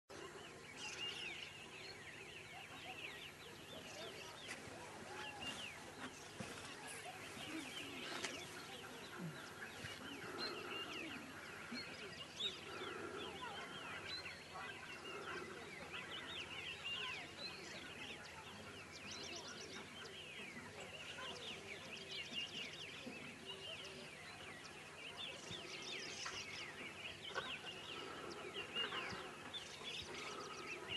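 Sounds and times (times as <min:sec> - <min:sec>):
birds chirping chorus: 0:00.1 - 0:30.9.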